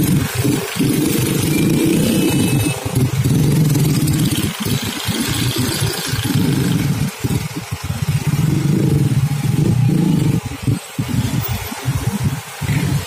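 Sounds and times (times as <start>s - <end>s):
traffic engines running: 0.0s - 13.0s.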